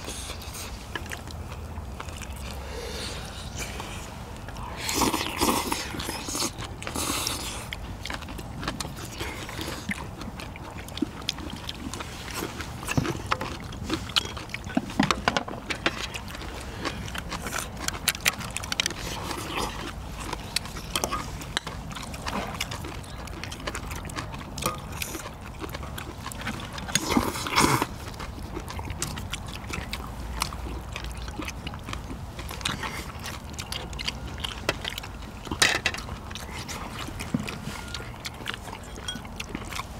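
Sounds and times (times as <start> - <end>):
chewing and mouth sounds: 0.0 - 39.9.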